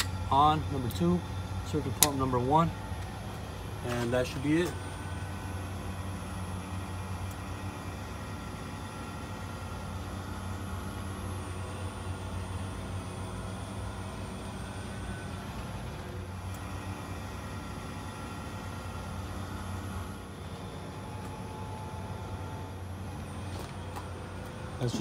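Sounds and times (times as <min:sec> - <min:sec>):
air conditioning unit humming: 0:00.0 - 0:25.0.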